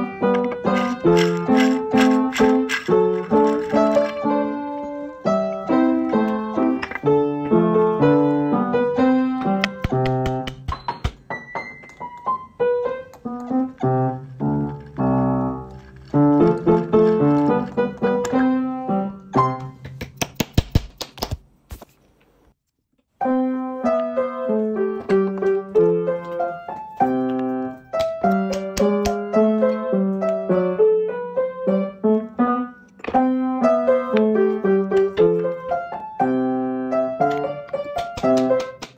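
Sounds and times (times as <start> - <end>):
solo piano music: 0.0 - 19.9, 23.1 - 38.9.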